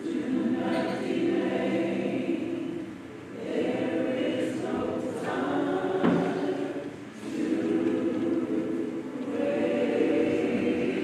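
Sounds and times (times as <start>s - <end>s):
choir singing gospel: 0.0s - 11.0s.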